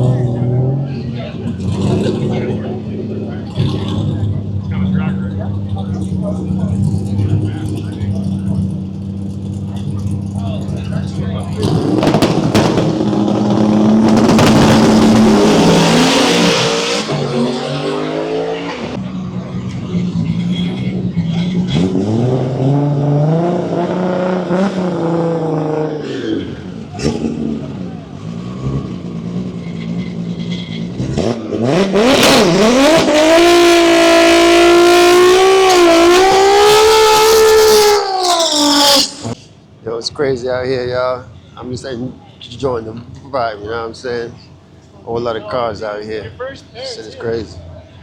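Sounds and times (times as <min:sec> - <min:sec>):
drag car accelerating: 0:00.0 - 0:39.5.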